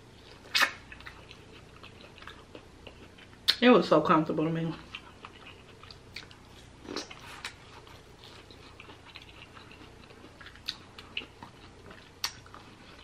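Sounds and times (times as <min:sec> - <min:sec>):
chewing soft food: 0:00.1 - 0:03.6, 0:04.8 - 0:13.0.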